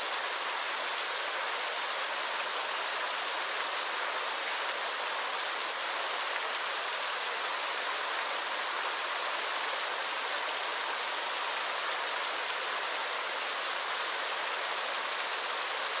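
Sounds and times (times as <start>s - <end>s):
rush of water: 0.0s - 16.0s.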